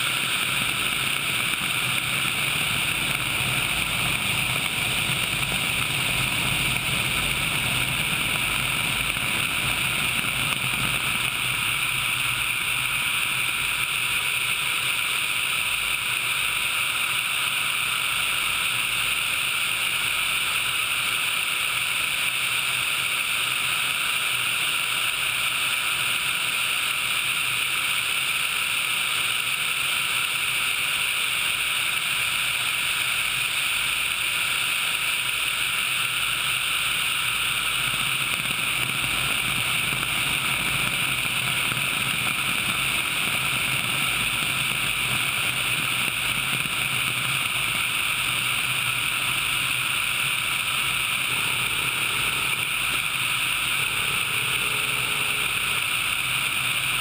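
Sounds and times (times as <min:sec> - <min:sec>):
helicopter rotor and engine: 0:00.0 - 0:57.0.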